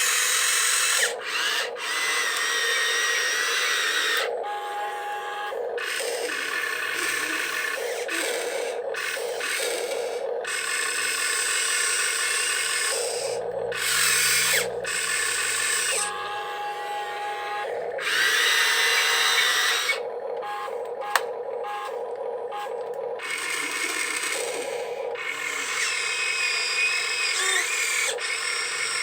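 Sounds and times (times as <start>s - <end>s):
small electric motors whining: 0.0s - 29.0s.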